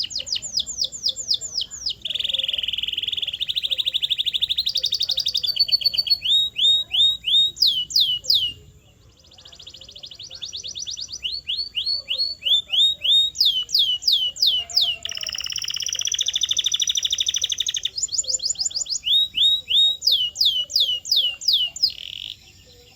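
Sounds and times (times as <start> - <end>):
canary singing: 0.0 - 22.9.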